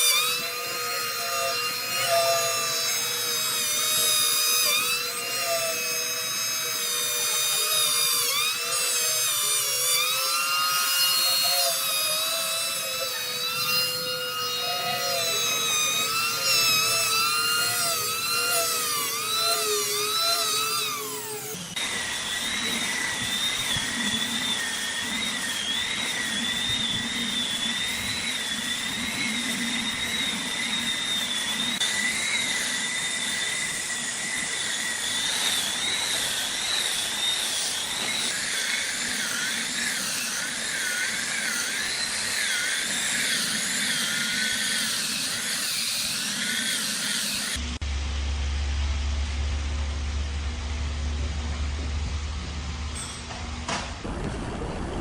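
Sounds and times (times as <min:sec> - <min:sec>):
power tool whining cutting wood: 0:00.0 - 0:54.2
tool with higher whine: 0:00.0 - 0:55.0.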